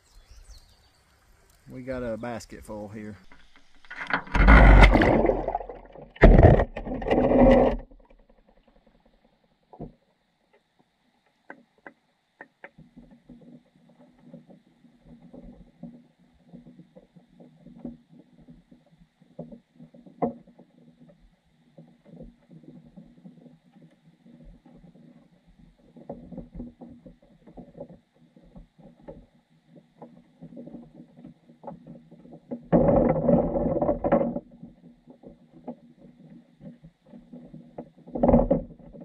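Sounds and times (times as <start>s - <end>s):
muffled underwater water rumble: 1.7s - 9.3s, 12.8s - 39.0s
small underwater knocks: 3.2s - 39.0s.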